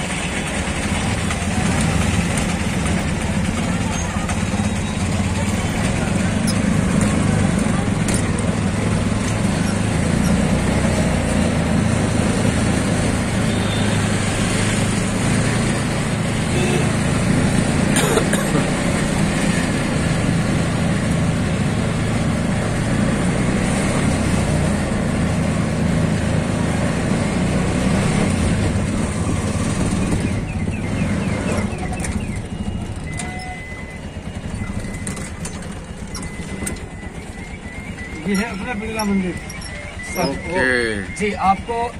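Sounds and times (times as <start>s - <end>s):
auto-rickshaw engine running: 0.0s - 41.9s
road noise: 0.0s - 41.9s.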